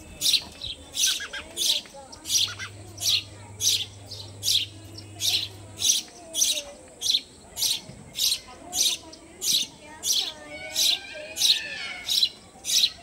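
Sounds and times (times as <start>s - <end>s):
sparrow nestlings chirping: 0.0s - 13.0s.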